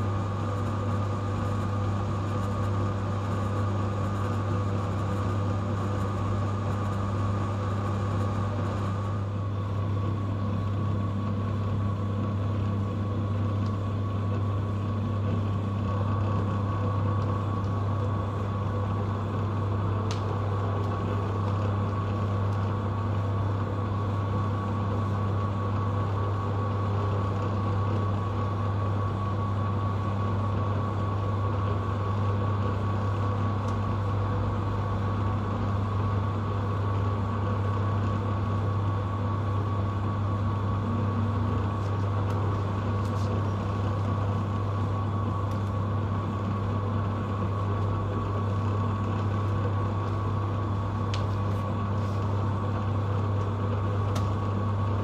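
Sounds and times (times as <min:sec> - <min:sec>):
tumble dryer motor hum: 0:00.0 - 0:55.0.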